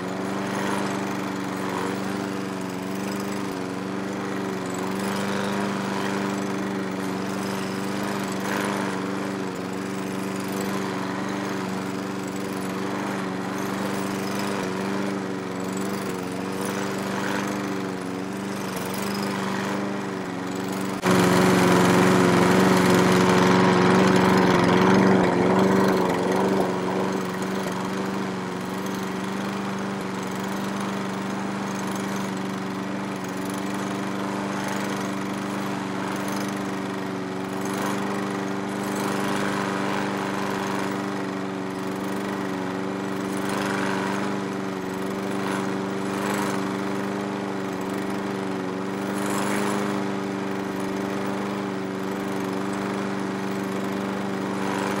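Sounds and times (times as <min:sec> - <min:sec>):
lawn mower engine: 0:00.0 - 0:55.0.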